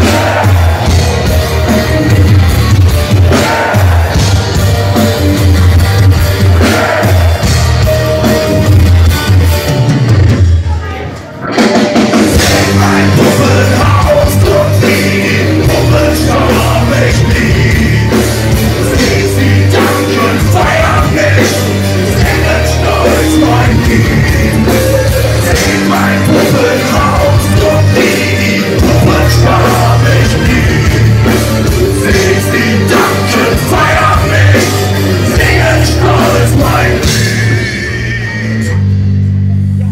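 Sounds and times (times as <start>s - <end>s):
singer's vocals: 0.0s - 1.5s, 3.2s - 4.5s, 6.4s - 8.2s, 10.9s - 38.9s
bass guitar: 0.0s - 10.7s, 11.3s - 39.9s
distorted electric guitars: 0.0s - 39.9s
drum kit: 0.0s - 39.9s.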